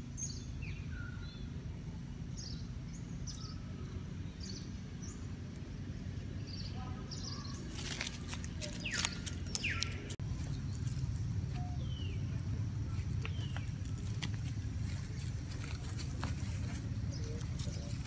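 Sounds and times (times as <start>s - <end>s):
low motor rumble: 0.0s - 18.0s.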